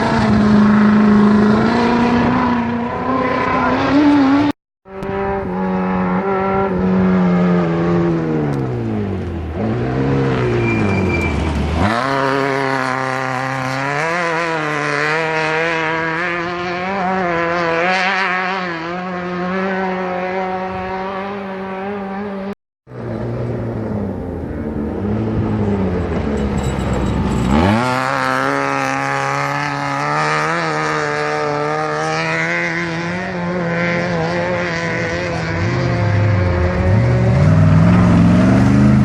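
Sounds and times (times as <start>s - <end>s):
engine revving: 0.0s - 39.0s
race vehicle engine passing: 0.0s - 39.0s.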